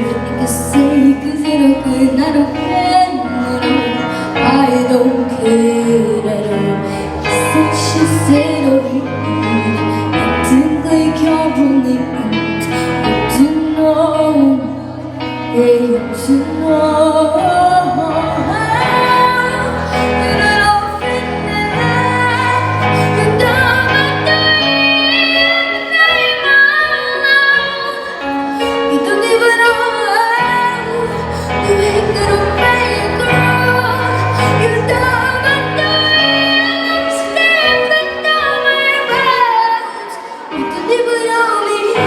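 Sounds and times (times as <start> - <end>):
girl singing pop song: 0.0 - 42.0.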